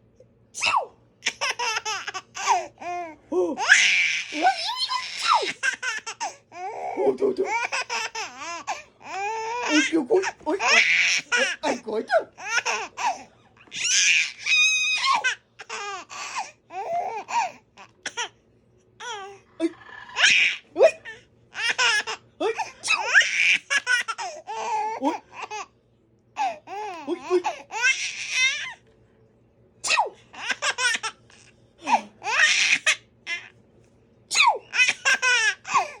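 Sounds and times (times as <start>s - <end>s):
baby laughing: 1.2s - 18.3s, 20.1s - 25.7s, 26.4s - 28.8s, 30.3s - 33.5s, 34.5s - 36.0s.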